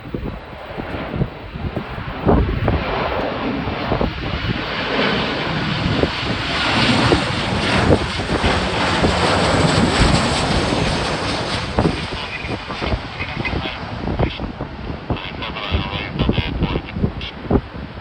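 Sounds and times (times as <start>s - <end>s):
jet airliner passing overhead: 0.0s - 18.0s
wind buffeting microphone: 0.0s - 18.0s.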